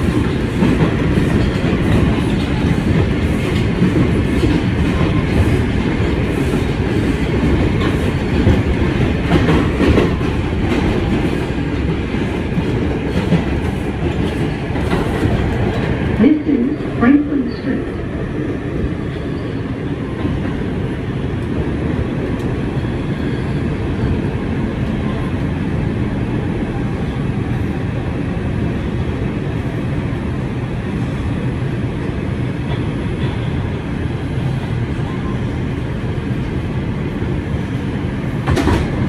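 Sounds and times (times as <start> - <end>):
subway car rumbling: 0.0 - 39.0.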